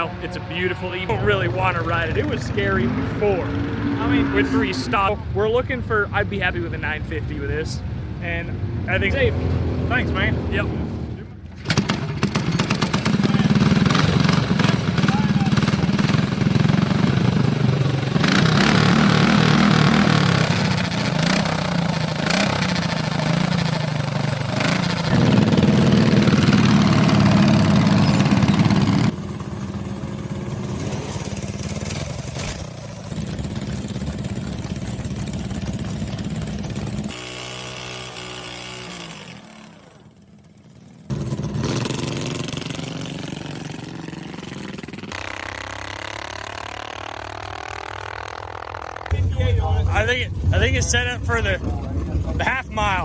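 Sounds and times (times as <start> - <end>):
mini bike engines revving: 0.0 - 5.2, 11.5 - 49.2.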